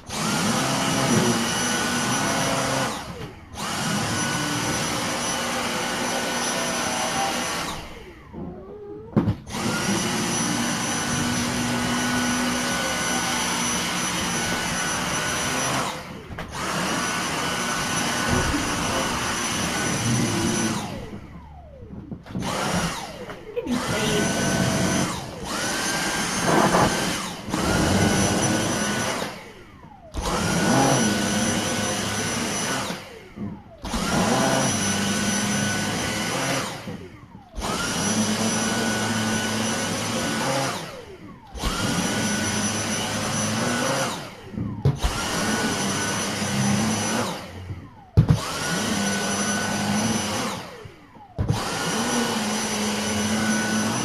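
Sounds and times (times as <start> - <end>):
vacuum cleaner whining: 0.0 - 54.0.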